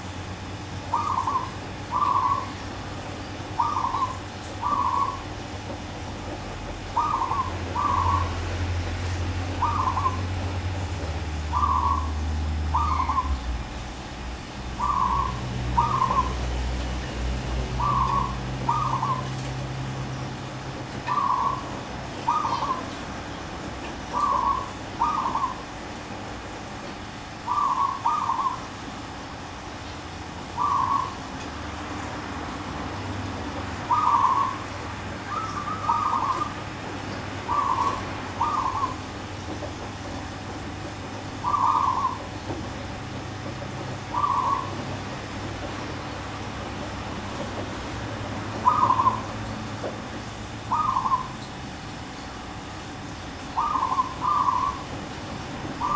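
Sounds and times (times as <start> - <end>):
dove cooing: 0.4 - 14.0, 14.6 - 23.1, 23.9 - 25.8, 27.4 - 28.8, 30.4 - 31.6, 33.3 - 51.6, 53.4 - 55.9.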